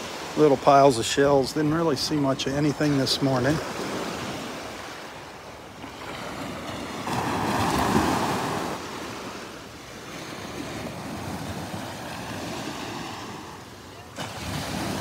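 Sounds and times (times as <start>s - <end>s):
waves breaking on sandy shore: 0.0s - 15.0s.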